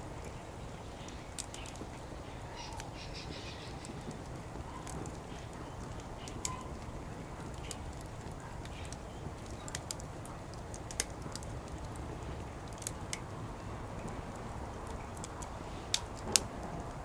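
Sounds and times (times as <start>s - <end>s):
low background noise: 0.0s - 17.0s
wood fire crackling: 0.0s - 17.0s.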